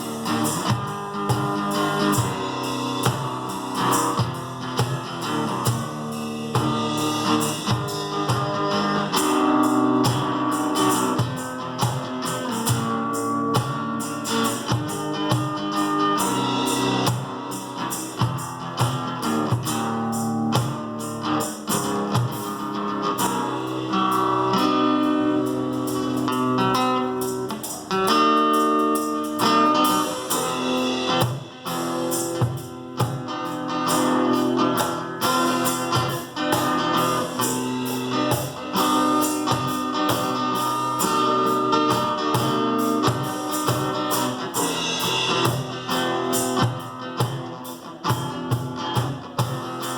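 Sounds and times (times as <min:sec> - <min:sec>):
acoustic guitar playing: 0:00.0 - 0:49.9
percussion hits: 0:00.0 - 0:49.9.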